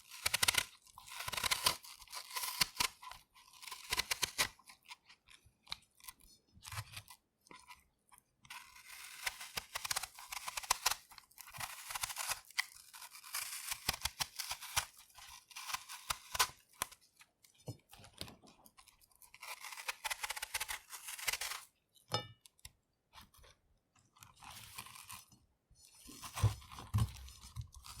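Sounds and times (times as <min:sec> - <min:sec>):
knife scraping apple skin: 0:00.0 - 0:21.7, 0:24.2 - 0:28.0.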